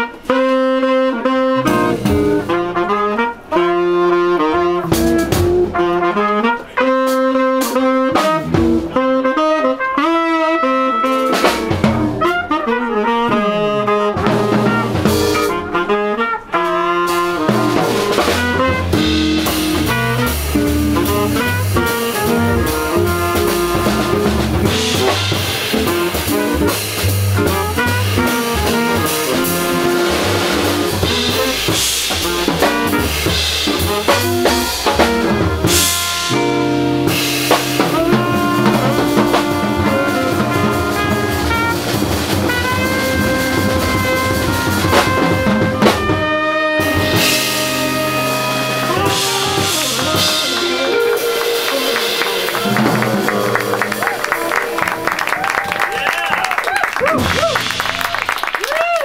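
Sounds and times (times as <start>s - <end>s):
jazz band playing: 0.0s - 59.0s.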